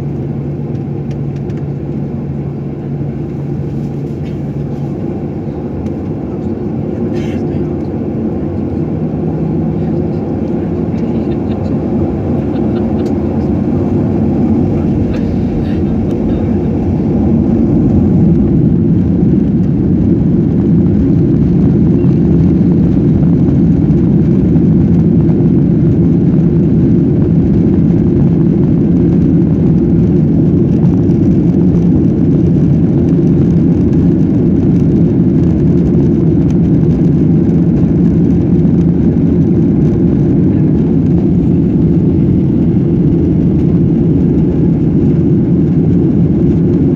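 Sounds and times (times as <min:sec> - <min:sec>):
jet engine rumble in cabin: 0:00.0 - 0:46.9.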